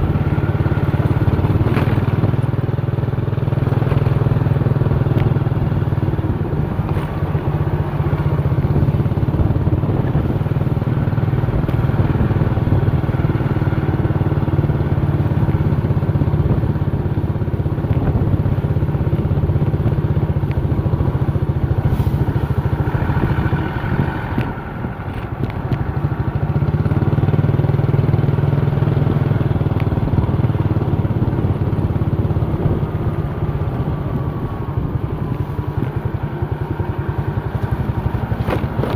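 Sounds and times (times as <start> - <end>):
truck engine droning: 0.0 - 38.9.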